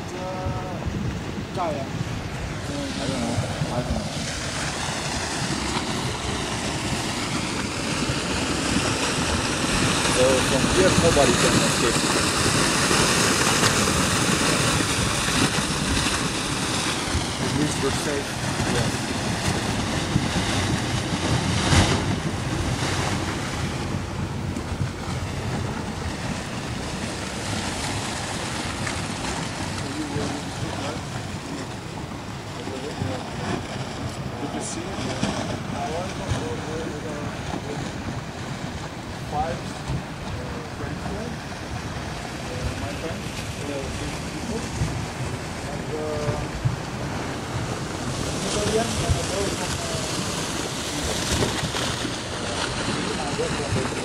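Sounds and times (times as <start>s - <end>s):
river rushing: 0.0s - 54.0s
wind buffeting microphone: 0.0s - 54.0s.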